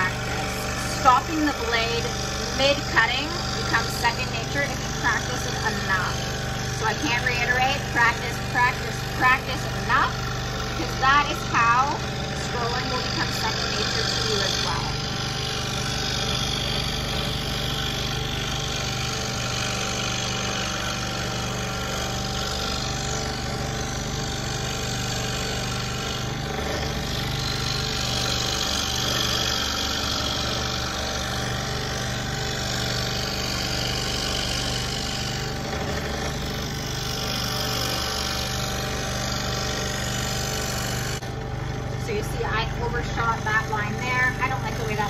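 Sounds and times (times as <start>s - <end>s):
scroll saw cutting wood: 0.0s - 45.0s.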